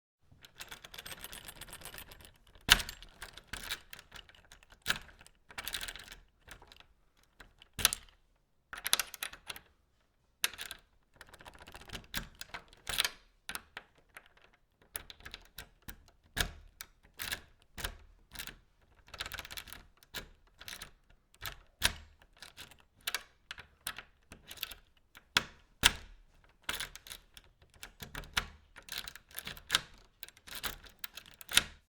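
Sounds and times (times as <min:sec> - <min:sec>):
key turning in a lock: 0:00.4 - 0:08.2, 0:10.5 - 0:31.9.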